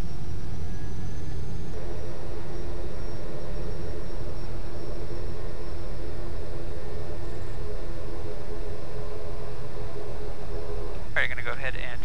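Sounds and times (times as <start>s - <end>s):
high engine whine: 0.0s - 12.0s
turboprop engine rumble: 0.0s - 12.0s.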